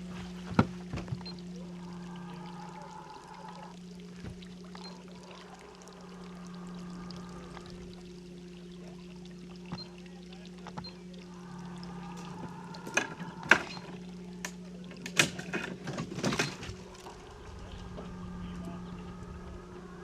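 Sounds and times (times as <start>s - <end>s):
engine idling: 0.0s - 20.0s
water splashing: 0.0s - 20.0s.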